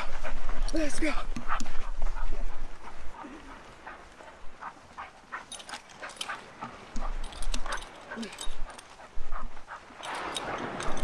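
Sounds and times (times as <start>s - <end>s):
footsteps on sand: 0.0s - 10.8s
dogs calling: 0.0s - 11.0s.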